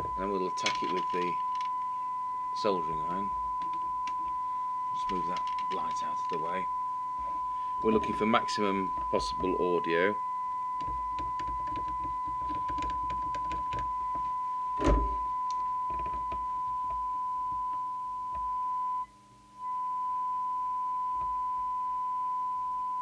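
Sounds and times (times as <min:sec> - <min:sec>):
high-pitched radio test tone: 0:00.0 - 0:23.0.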